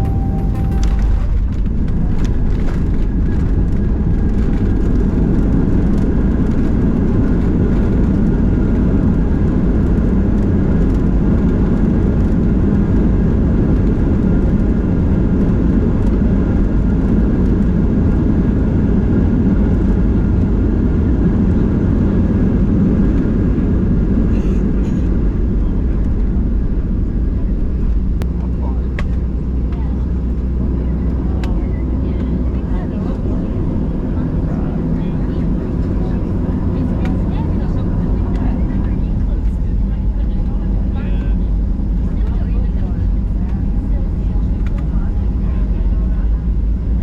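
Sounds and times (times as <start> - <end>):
jet airliner engine rumble: 0.0 - 47.0.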